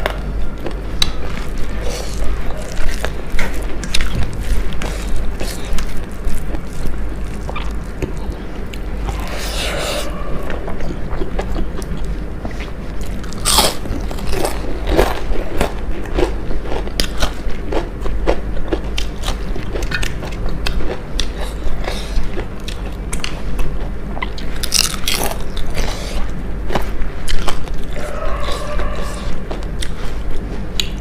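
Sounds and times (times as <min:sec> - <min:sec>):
crunchy chewing of fried food: 0:00.0 - 0:31.0
steady low hum: 0:00.0 - 0:31.0.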